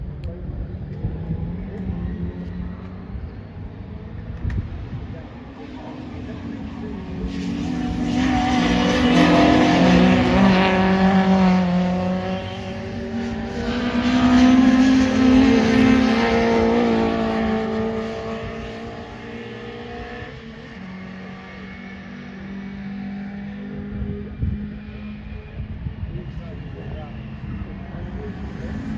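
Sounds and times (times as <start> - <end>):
racing car engines revving: 0.0 - 28.9.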